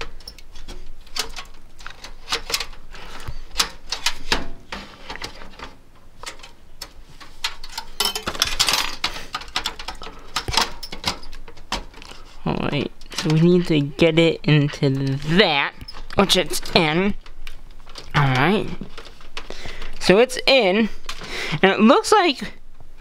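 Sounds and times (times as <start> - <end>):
scraping and rustling: 0.0 - 20.2.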